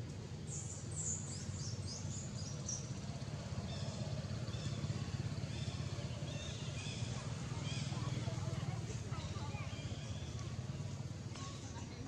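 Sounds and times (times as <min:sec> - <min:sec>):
birds chirping: 0:00.3 - 0:11.8.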